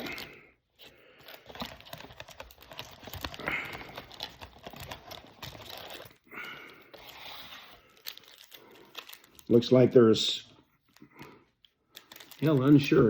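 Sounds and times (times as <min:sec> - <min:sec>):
foil card packs clicking and rustling: 0:00.0 - 0:09.6, 0:11.9 - 0:13.0
foil crinkle: 0:00.0 - 0:09.6, 0:11.9 - 0:13.0.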